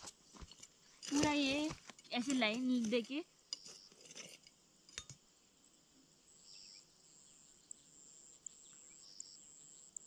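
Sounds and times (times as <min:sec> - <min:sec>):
insects trilling: 0:00.0 - 0:10.0
short insect chirps: 0:00.2 - 0:10.0.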